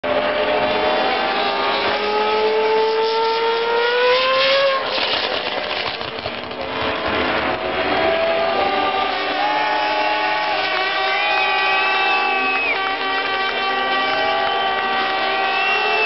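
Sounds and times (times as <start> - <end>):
race car engines at full throttle: 0.0 - 16.0.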